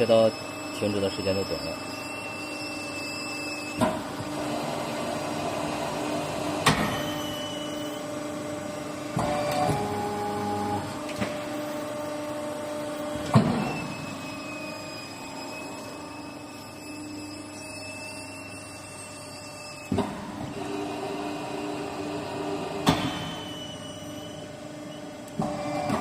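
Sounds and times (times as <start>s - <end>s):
hydraulic power unit humming: 0.0s - 26.0s.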